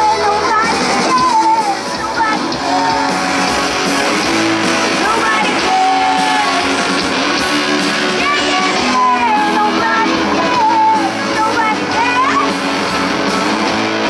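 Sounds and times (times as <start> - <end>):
live rock band playing: 0.0 - 14.0
strummed guitars: 0.0 - 14.0.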